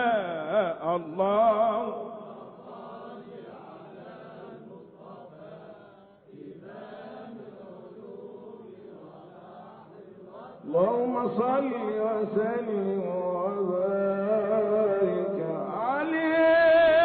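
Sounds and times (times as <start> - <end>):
soft devotional chanting: 0.0 - 17.0.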